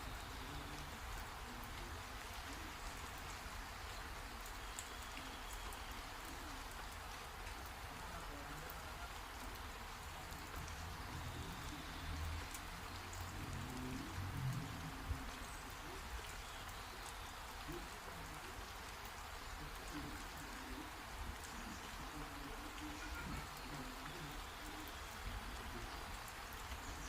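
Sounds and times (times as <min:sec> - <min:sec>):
raindrops ticking close by: 0:00.0 - 0:27.0
steady rain falling: 0:00.0 - 0:27.0.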